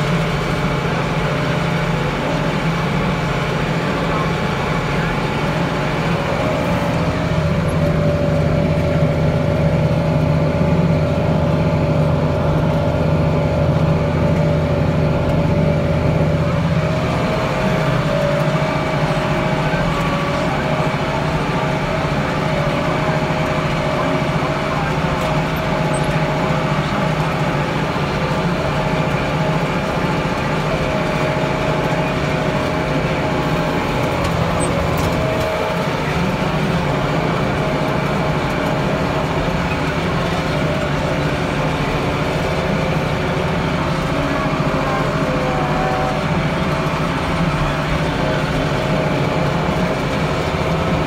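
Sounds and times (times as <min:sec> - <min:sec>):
tractor engine droning: 0:00.0 - 0:51.0.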